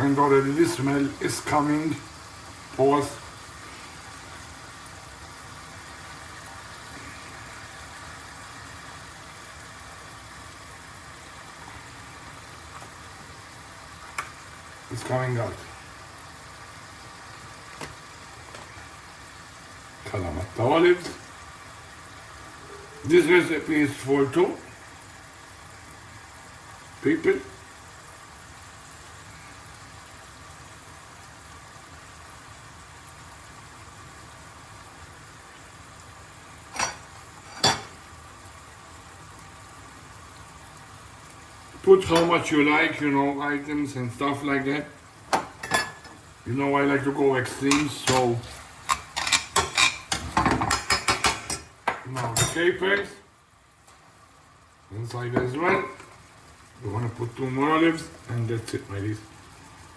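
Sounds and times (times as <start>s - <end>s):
food sizzling in oil in a pan: 0.0s - 59.9s.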